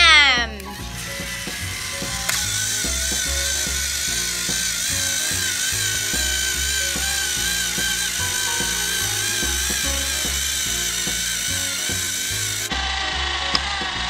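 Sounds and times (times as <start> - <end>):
background music with bass line: 0.0 - 14.0
toy motors whining: 0.0 - 14.0.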